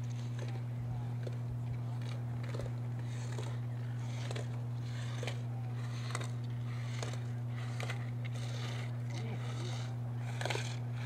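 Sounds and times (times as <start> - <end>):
loud steady low hum: 0.0 - 11.0.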